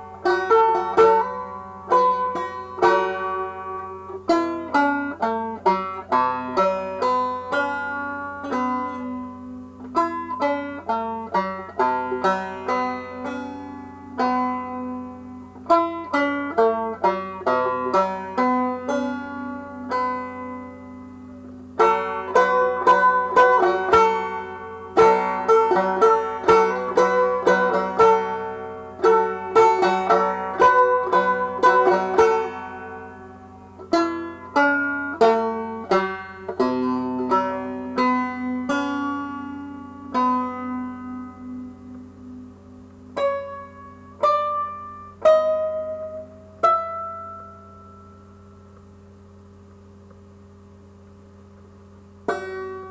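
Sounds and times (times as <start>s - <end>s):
solo banjo playing: 0.0s - 52.9s.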